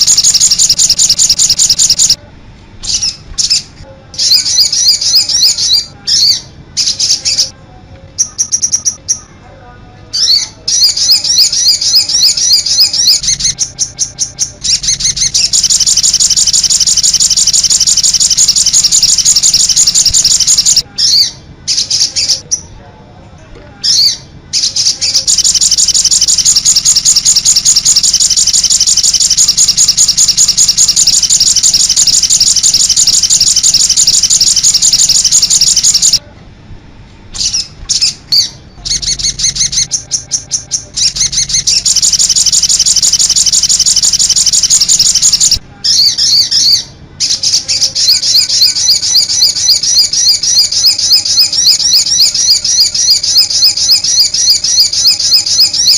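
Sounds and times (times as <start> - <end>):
songbird high-pitched trills: 0.0 - 2.2, 4.2 - 7.5, 8.2 - 9.3, 10.2 - 22.7, 23.8 - 36.2, 37.4 - 55.9.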